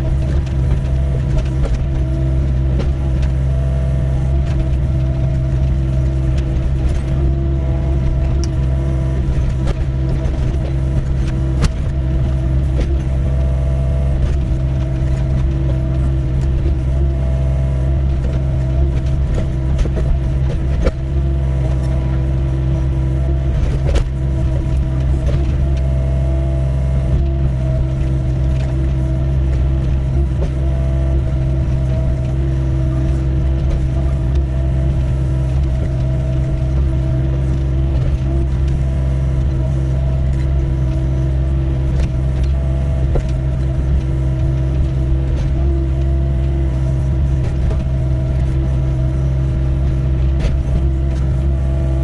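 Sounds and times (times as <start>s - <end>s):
excavator diesel engine working: 0.0s - 52.0s.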